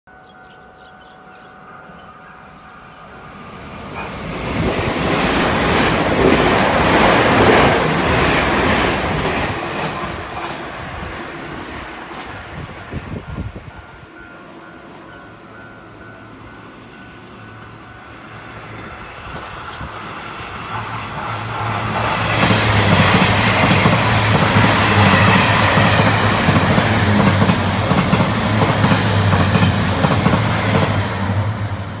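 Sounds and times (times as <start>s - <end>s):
diesel train passing: 0.2s - 32.0s.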